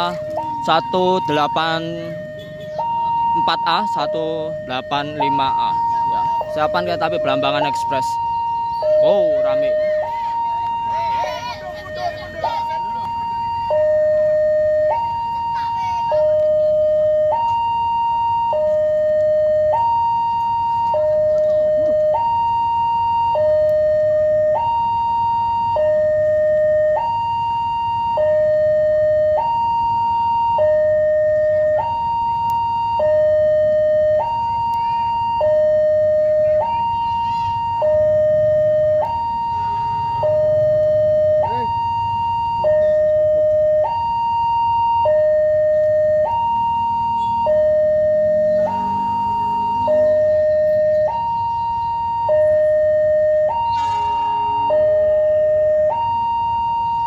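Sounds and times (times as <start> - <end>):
two-tone crossing alarm: 0.0 - 57.0.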